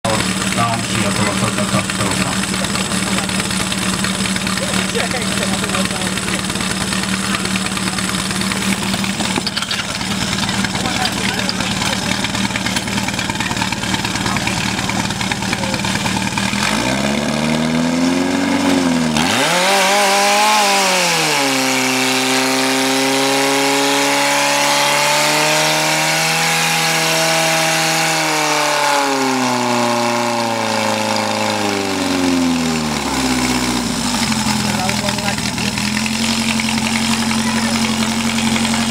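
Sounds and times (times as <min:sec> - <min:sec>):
petrol pump engine revving: 0:00.0 - 0:38.9.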